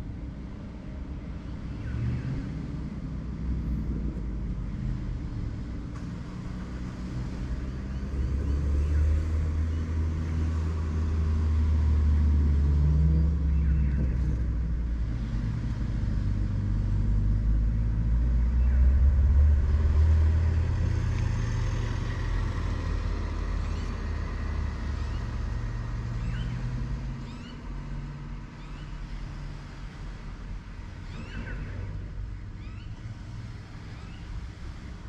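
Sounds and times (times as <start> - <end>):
low engine rumble: 0.0 - 35.0.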